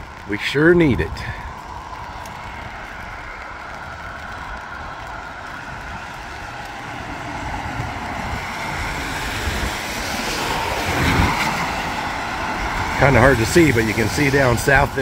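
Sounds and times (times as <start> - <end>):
car approaching: 0.0 - 15.0
tyres hissing on wet road: 0.0 - 15.0.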